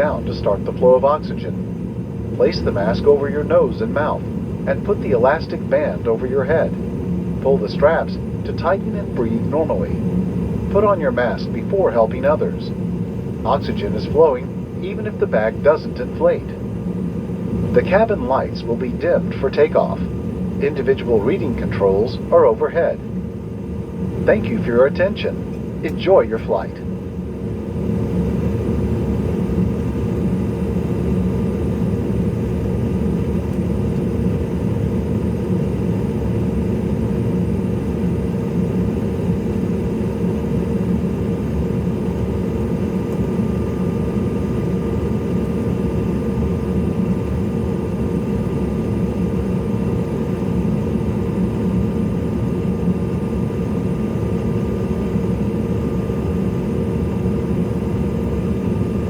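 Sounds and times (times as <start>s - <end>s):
faint engine whine: 0.0s - 59.0s
jet engines low rumble: 0.0s - 59.0s.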